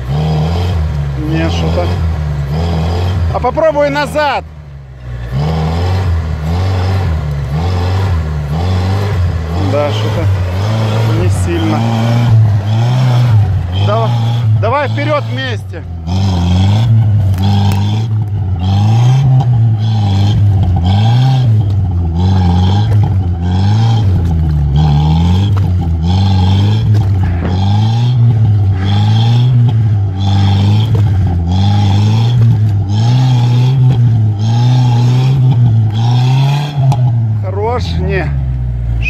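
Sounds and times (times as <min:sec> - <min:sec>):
engine revving hard: 0:00.0 - 0:38.5.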